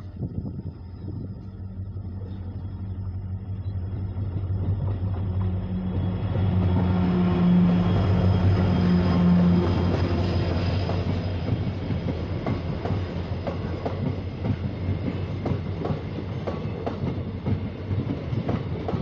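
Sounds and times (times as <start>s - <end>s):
diesel locomotive engine drone: 0.0s - 19.0s.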